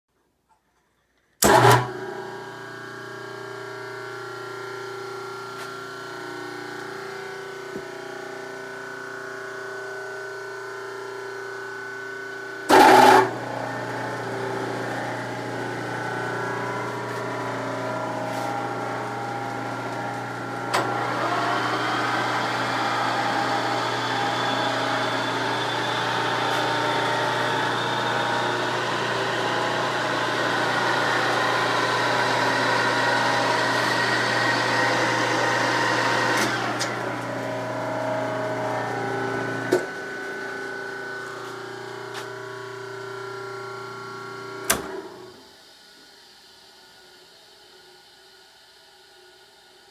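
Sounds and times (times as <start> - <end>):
electric motor hum: 1.4 - 45.5.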